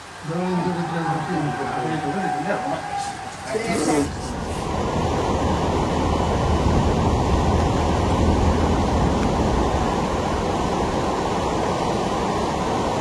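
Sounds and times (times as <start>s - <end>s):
steady low rushing noise: 1.4s - 13.0s.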